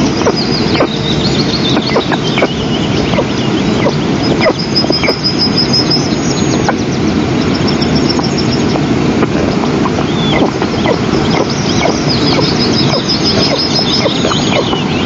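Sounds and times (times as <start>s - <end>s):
bird chirps and trills: 0.0s - 15.0s
wind noise on microphone: 0.0s - 15.0s.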